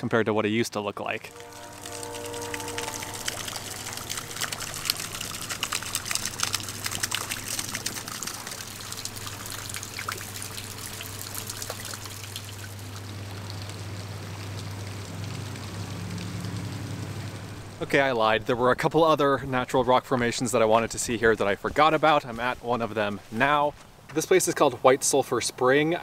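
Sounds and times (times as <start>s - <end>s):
low steady hum: 1.2s - 24.0s
water trickling and dripping: 1.3s - 23.5s.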